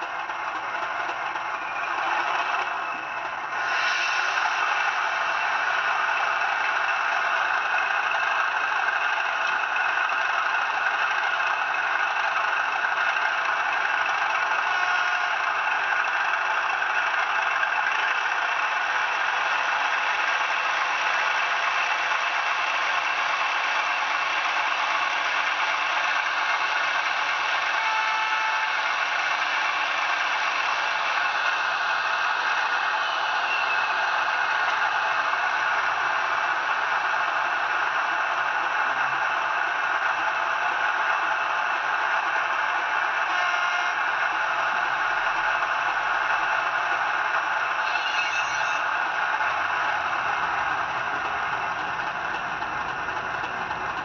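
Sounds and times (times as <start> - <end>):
model locomotive diesel engine sound: 0.0 - 54.0.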